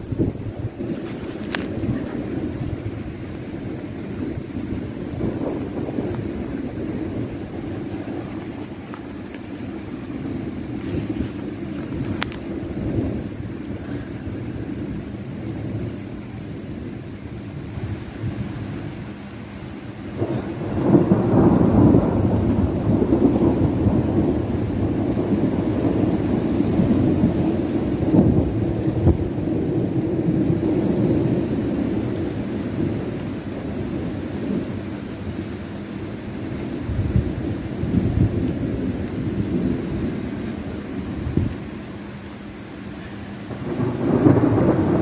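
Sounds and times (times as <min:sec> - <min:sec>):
rain hiss: 0:00.0 - 0:45.0
thunder rumbling: 0:00.0 - 0:45.0.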